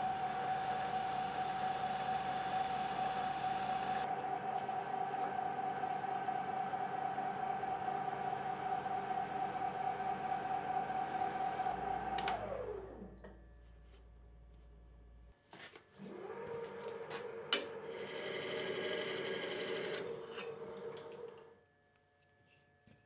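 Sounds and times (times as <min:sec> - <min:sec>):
wood lathe motor whine: 0:00.0 - 0:13.1, 0:16.0 - 0:21.5.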